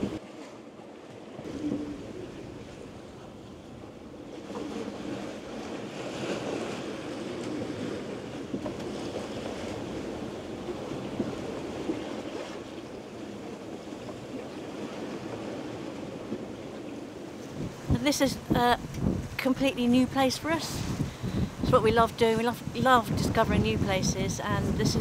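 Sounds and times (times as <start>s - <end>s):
wind buffeting microphone: 0.0s - 0.2s, 1.4s - 25.0s
sea water rushing past boat: 0.0s - 25.0s.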